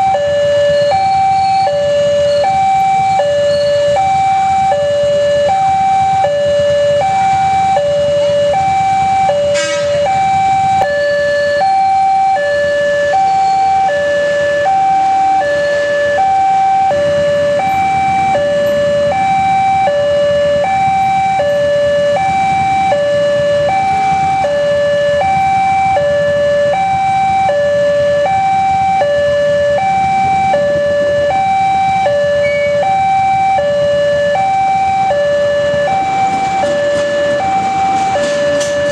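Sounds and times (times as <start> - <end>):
two-tone warning siren: 0.0 - 38.9.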